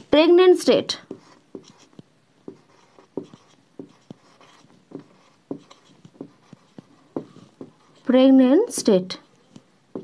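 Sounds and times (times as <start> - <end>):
marker writing on a whiteboard: 0.0 - 10.0.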